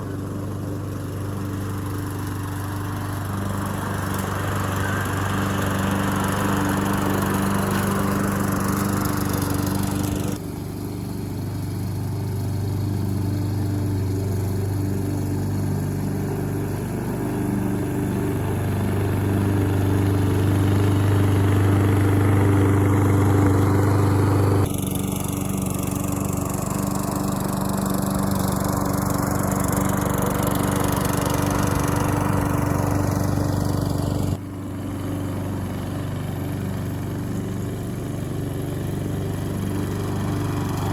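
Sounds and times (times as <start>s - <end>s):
push lawn mower running: 0.0s - 40.9s.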